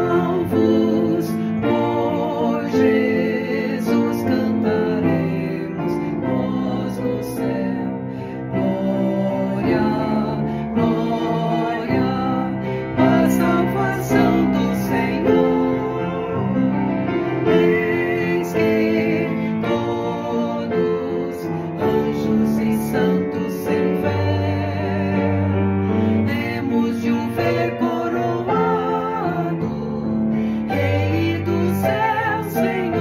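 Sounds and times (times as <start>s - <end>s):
piano accompaniment: 0.0s - 33.0s
women singing a hymn: 0.0s - 33.0s.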